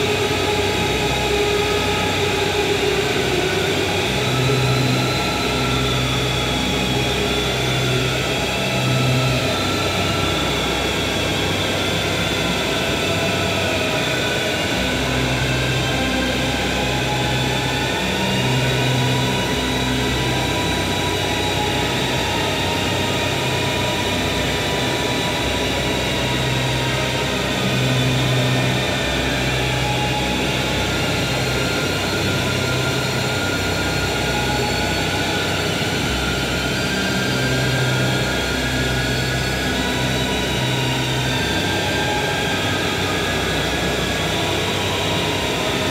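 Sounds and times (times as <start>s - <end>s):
experimental drone noise music: 0.0s - 45.9s
low pulsing throb: 0.0s - 45.9s.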